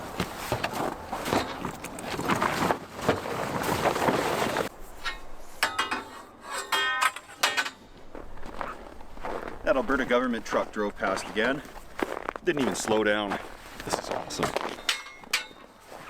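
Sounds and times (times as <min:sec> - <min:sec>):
gear rustling and clattering: 0:00.0 - 0:16.0.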